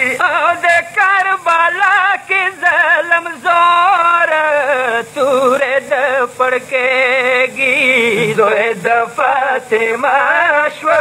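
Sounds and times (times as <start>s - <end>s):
man singing a lament: 0.0s - 11.0s.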